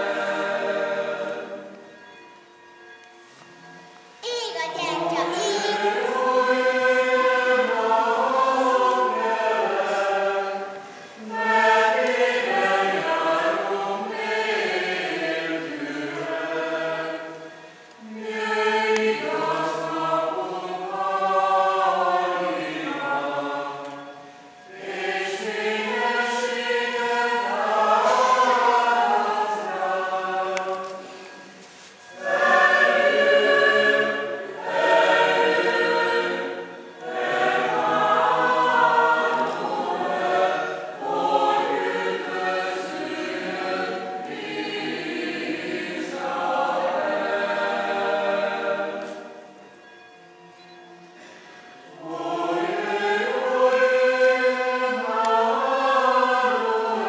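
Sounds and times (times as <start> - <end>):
choir singing slow song: 0.0 - 57.0.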